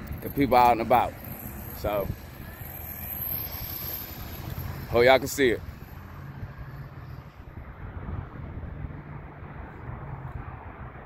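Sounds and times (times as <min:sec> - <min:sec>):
distant traffic hum: 0:00.0 - 0:11.0
wind buffeting microphone: 0:00.0 - 0:11.0.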